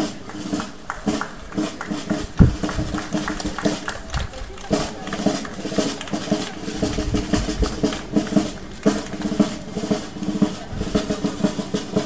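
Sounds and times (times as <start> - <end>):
snare drums beating and rolling: 0.0 - 12.0.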